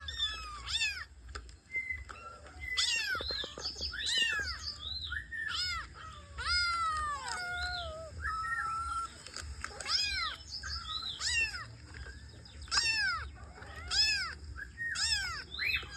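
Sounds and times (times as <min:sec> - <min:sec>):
cats meowing: 0:00.0 - 0:01.2, 0:01.9 - 0:12.0, 0:12.6 - 0:15.9.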